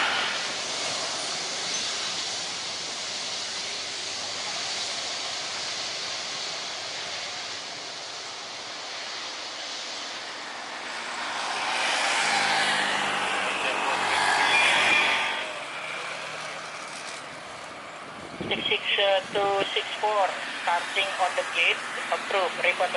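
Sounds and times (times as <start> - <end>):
airliner jet engines rushing: 0.0 - 22.9.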